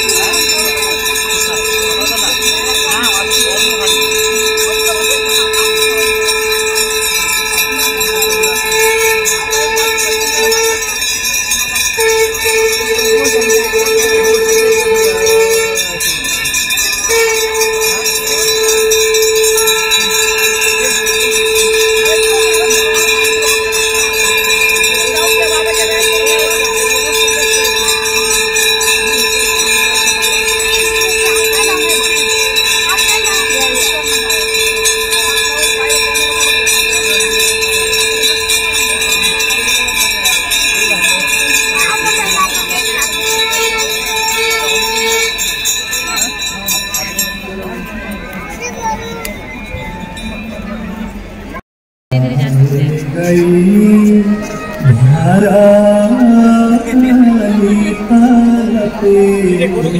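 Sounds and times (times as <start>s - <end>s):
hand bells ringing: 0.0s - 51.6s
steady held tone: 0.0s - 59.9s.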